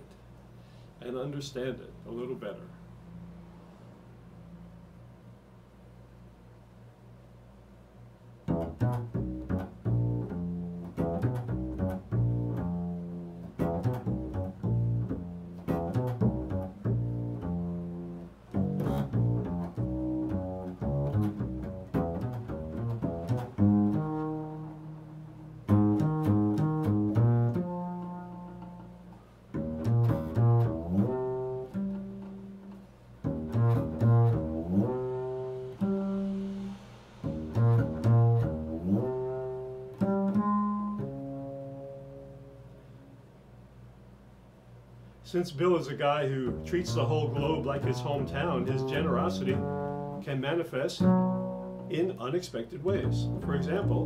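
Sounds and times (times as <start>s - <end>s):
plucked double bass: 8.4s - 43.6s, 45.6s - 54.0s.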